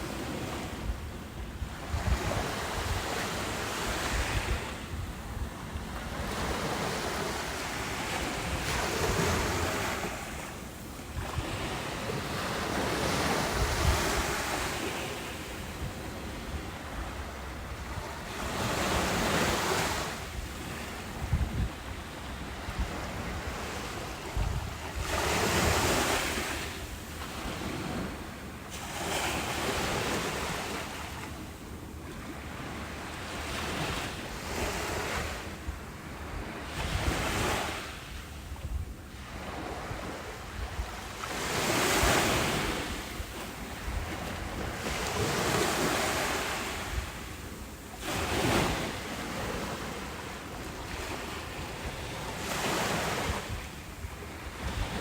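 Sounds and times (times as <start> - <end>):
ocean waves breaking: 0.0 - 31.4, 39.2 - 55.0
wind rumble on microphone: 0.0 - 55.0.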